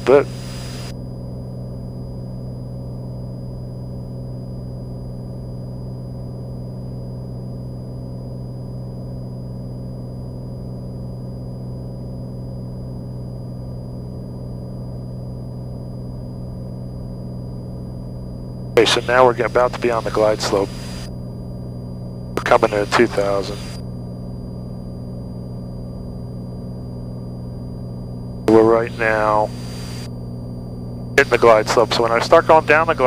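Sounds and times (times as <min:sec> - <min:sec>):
propeller plane engine droning: 0:00.0 - 0:33.0.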